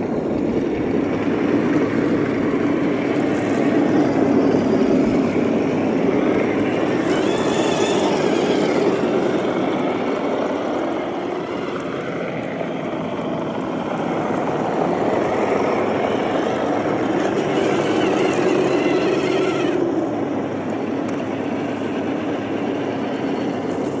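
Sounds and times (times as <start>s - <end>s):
rc truck motors whining: 0.0s - 24.0s.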